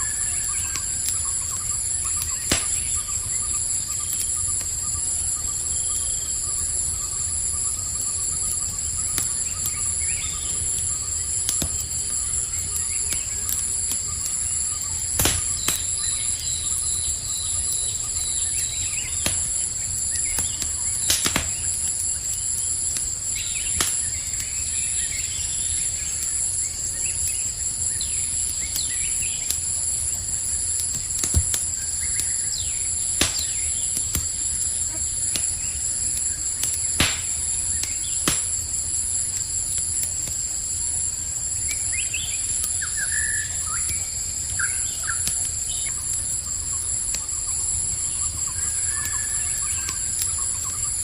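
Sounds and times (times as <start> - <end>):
campfire crackling and snapping: 0.0 - 51.0
crickets trilling: 0.0 - 51.0.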